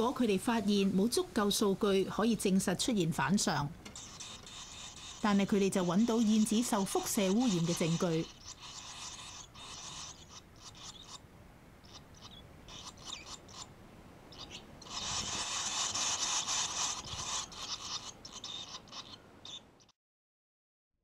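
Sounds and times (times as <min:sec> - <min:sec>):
nestlings chittering: 0:00.0 - 0:11.2, 0:11.8 - 0:13.7, 0:14.3 - 0:19.9.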